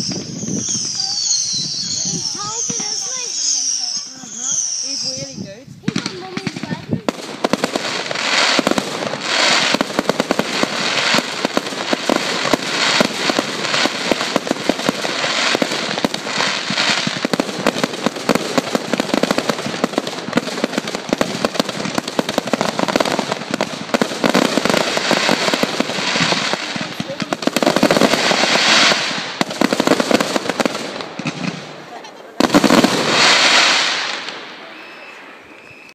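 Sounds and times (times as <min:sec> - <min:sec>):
fireworks crackling and popping: 0:00.0 - 0:35.9
fireworks hissing: 0:00.0 - 0:35.9.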